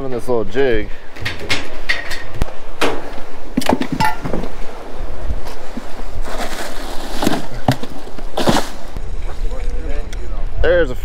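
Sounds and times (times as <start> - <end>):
wind rushing over microphone: 0.6 - 11.0.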